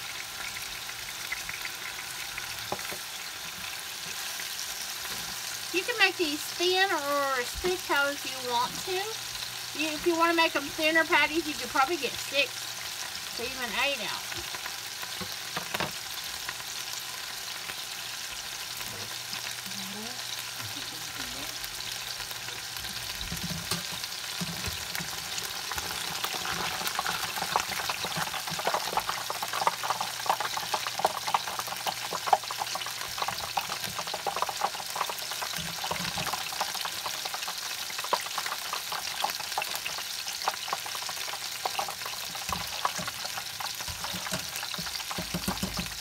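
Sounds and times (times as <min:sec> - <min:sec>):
patties sizzling in a skillet: 0:00.0 - 0:46.0.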